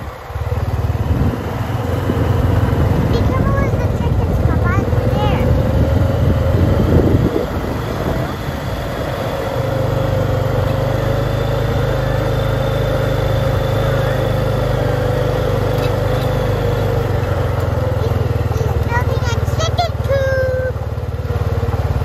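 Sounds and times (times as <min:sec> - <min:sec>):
atv engine droning: 0:00.0 - 0:22.0.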